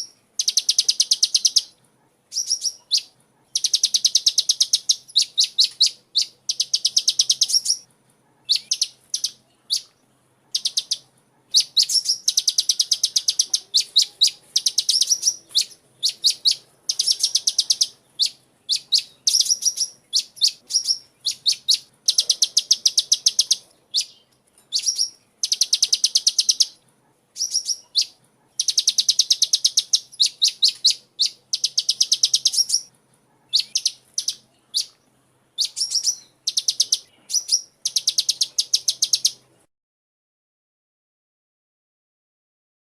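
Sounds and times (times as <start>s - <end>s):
songbird chirping: 0.0s - 39.7s.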